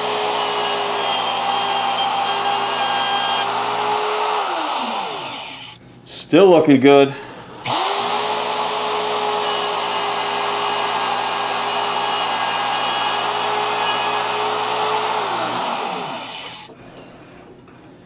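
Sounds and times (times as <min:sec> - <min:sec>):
router high whine: 0:00.0 - 0:05.8, 0:07.6 - 0:16.7.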